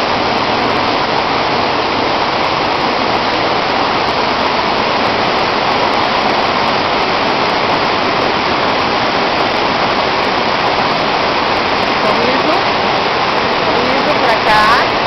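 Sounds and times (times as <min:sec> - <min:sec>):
waterfall and river rushing: 0:00.0 - 0:15.0.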